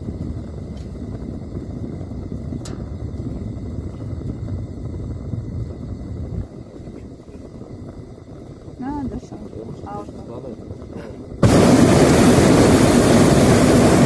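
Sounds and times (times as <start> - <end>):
propane burner rushing: 0.0 - 14.0.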